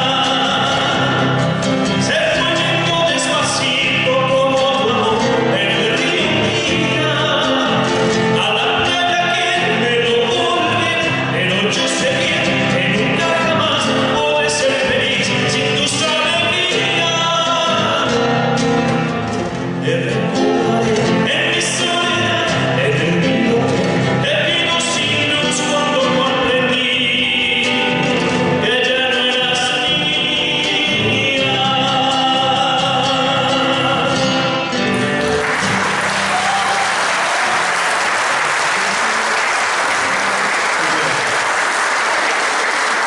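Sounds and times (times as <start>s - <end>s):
man singing folk song: 0.0s - 36.7s.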